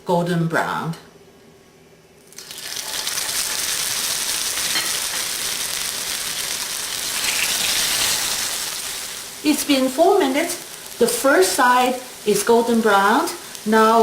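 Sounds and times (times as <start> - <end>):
food sizzling in hot oil: 2.3 - 14.0.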